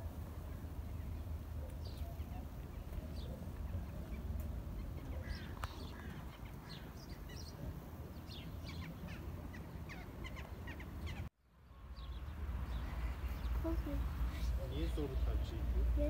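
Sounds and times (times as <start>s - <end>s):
birds chirping: 0.3s - 16.0s.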